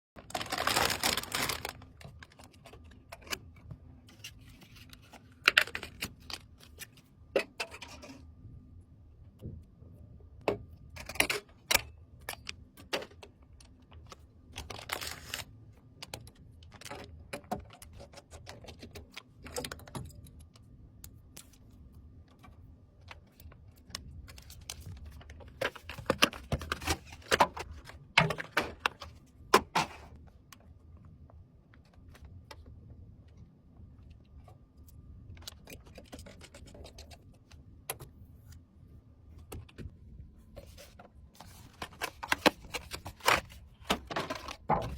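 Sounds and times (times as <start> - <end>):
hands handling computer parts: 0.2 - 8.3, 10.4 - 38.7, 39.3 - 44.9
faint steady hum: 0.2 - 44.9.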